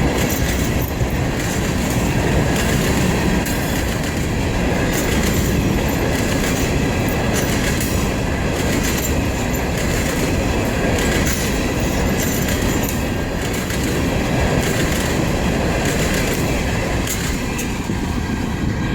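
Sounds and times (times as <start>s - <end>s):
wheels clicking over rail joints: 0.0s - 18.7s.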